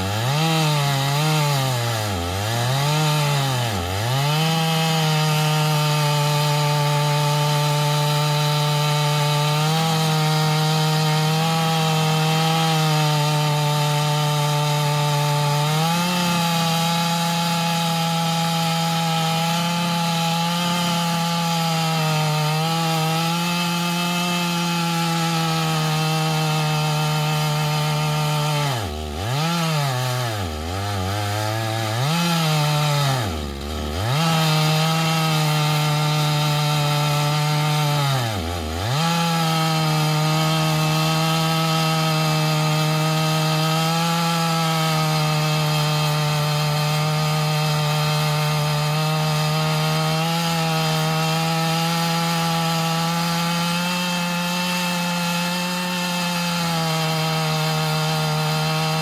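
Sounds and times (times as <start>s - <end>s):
chainsaw cutting through log: 0.0s - 59.0s.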